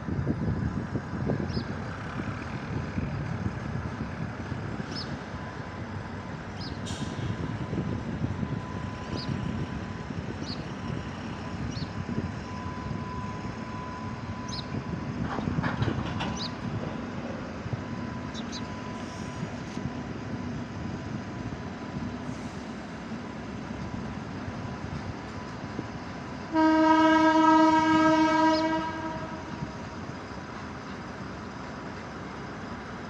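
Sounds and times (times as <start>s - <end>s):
distant freight train rumble: 0.0s - 33.0s.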